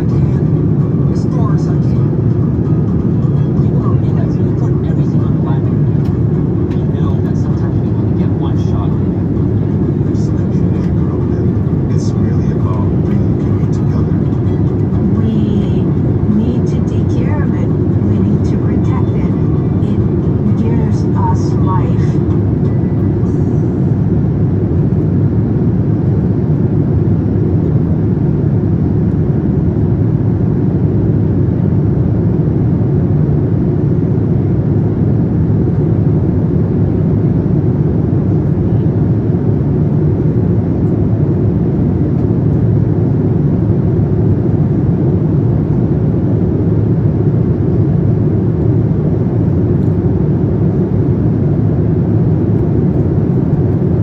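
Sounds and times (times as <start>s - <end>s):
aircraft engines and airflow rumble: 0.0s - 54.0s.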